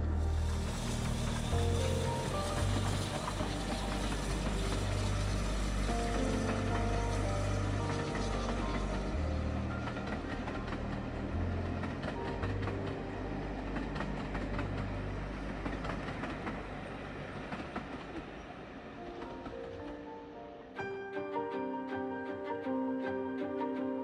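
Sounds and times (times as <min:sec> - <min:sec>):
low train rumble: 0:00.0 - 0:24.0.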